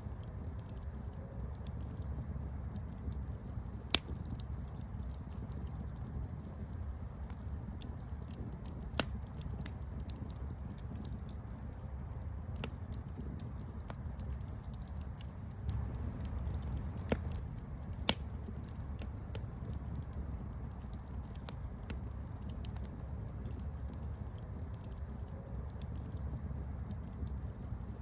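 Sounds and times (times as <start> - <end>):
campfire low rumble: 0.0 - 28.0
wood crackling and popping: 0.0 - 28.0.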